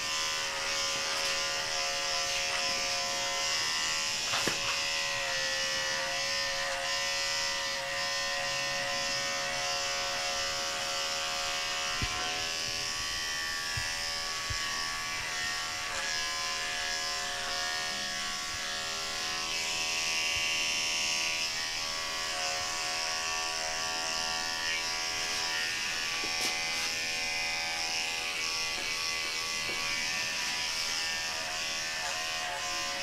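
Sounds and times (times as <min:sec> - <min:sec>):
electric clipper buzzing: 0:00.0 - 0:33.0.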